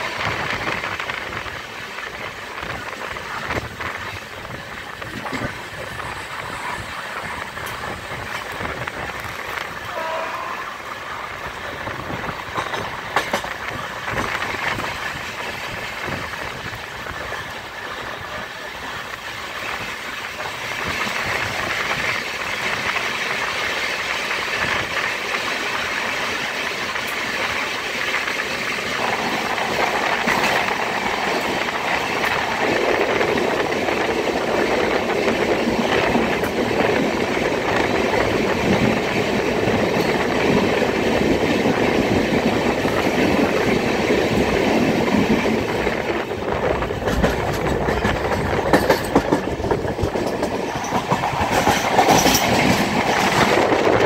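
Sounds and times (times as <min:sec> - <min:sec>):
train wheel and rail noise: 0:00.0 - 0:54.0.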